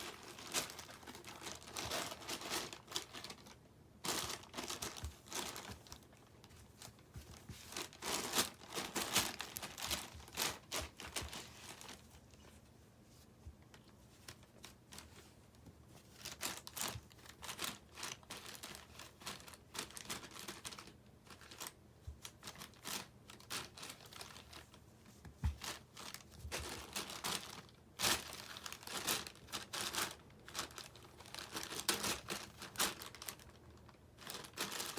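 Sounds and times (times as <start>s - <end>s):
packaging rustling and crackling: 0.0s - 12.6s, 13.6s - 34.9s.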